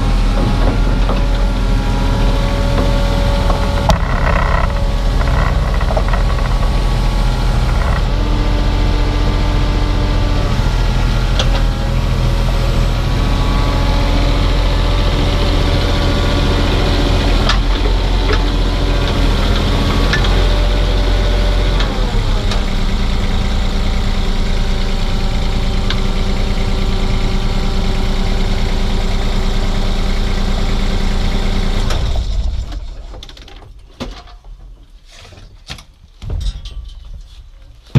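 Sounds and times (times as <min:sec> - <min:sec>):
diesel engine running: 0:00.0 - 0:33.1.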